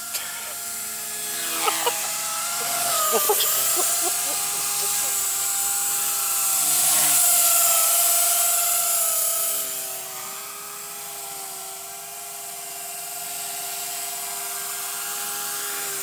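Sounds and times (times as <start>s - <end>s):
rc helicopter rotors whining: 0.0s - 16.0s.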